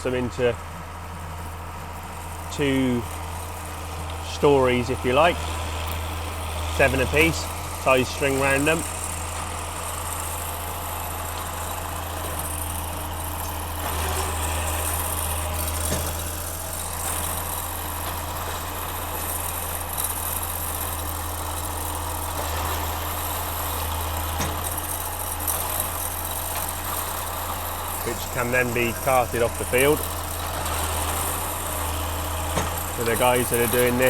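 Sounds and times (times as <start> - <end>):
tractor engine drone: 0.0 - 34.0.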